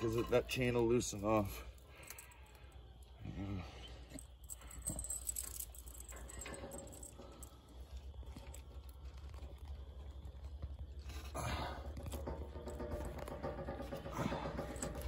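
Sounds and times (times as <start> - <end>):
chain clinking and rattling: 0.0 - 15.0.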